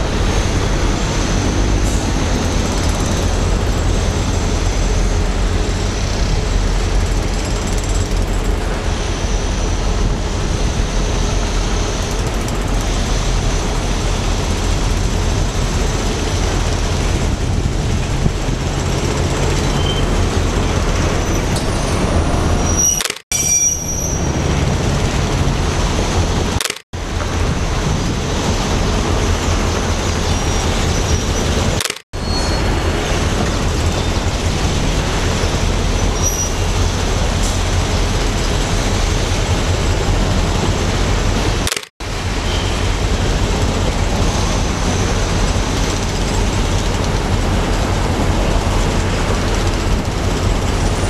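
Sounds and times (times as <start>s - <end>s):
locomotive diesel engine droning: 0.0s - 51.0s.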